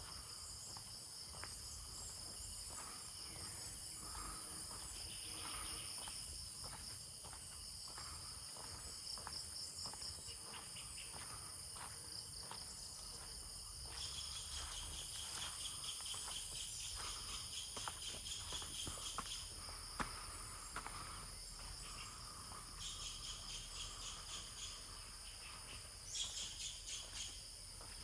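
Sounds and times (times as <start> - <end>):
insects trilling: 0.0 - 28.0
pulsing insect call: 0.0 - 28.0.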